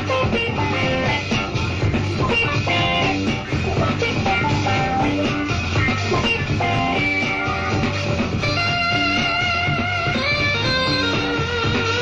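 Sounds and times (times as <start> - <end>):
drums: 0.0 - 12.0
electric bass: 0.0 - 12.0
electric guitar: 0.0 - 12.0
keyboards: 0.0 - 12.0.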